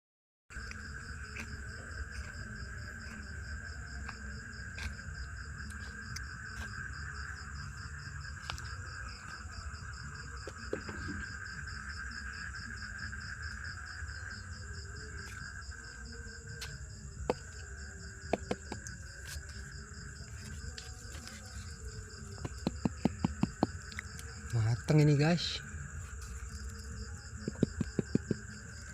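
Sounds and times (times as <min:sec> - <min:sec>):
insects trilling: 0:00.5 - 0:28.9.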